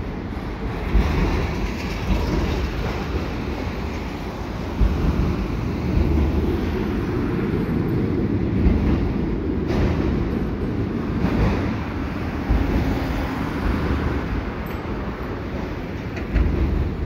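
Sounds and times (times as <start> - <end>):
train wheels rumbling on bridge: 0.0 - 17.0.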